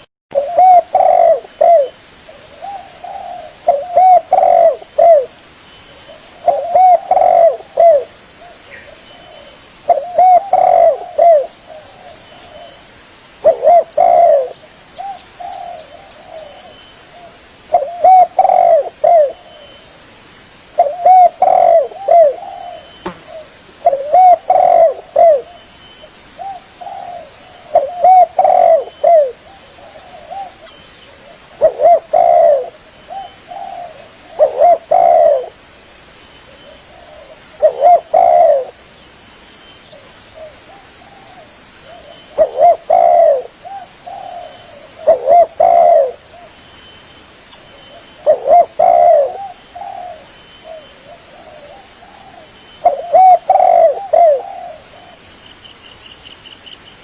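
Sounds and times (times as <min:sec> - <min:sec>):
dove cooing: 0:00.0 - 0:05.4, 0:06.0 - 0:12.8, 0:13.4 - 0:19.9, 0:20.8 - 0:25.6, 0:26.4 - 0:35.6, 0:36.5 - 0:38.8, 0:39.9 - 0:46.6, 0:47.9 - 0:55.3.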